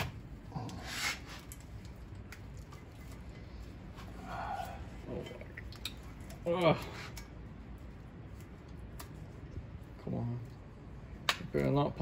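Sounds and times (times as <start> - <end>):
faint metal handling noises: 0.0 - 10.6.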